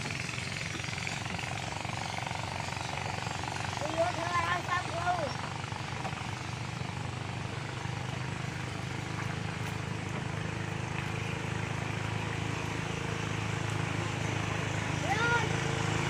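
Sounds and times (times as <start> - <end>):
motorboat engine drone: 0.0 - 16.0.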